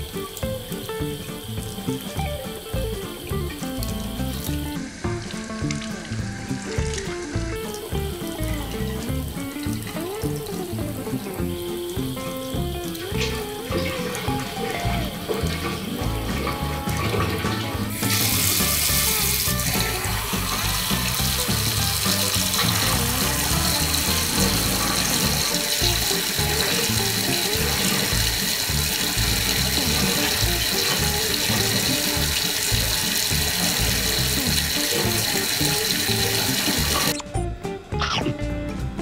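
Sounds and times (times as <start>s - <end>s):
tap water running into basin: 0.0s - 37.2s
background music: 0.0s - 39.0s.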